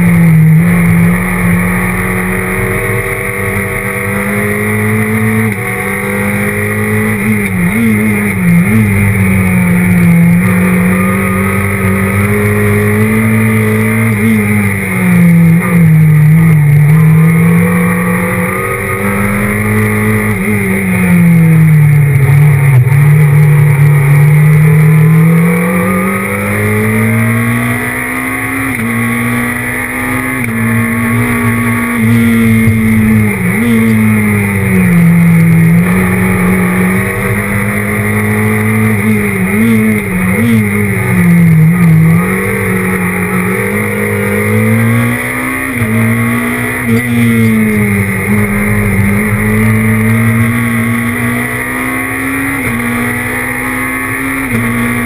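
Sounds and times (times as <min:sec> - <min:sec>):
rally car engine under load: 0:00.0 - 0:55.0.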